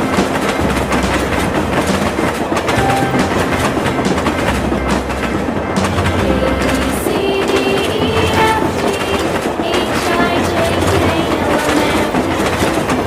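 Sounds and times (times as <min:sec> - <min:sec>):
dense rattling clatter: 0:00.0 - 0:13.0.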